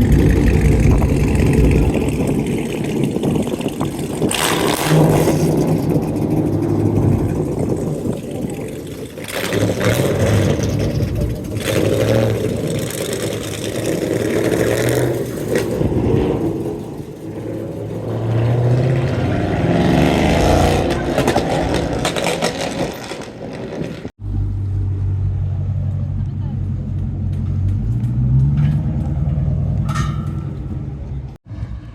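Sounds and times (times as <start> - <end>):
car exhausts revving: 0.0 - 31.9
low engine rumble: 0.0 - 31.9.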